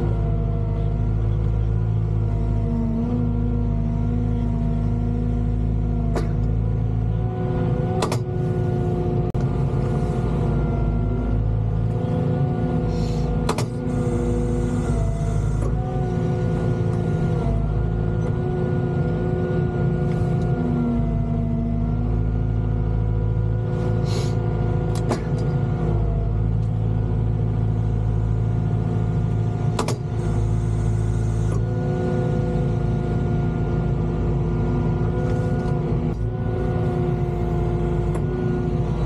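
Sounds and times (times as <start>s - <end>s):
excavator diesel engine whining: 0.0s - 39.0s.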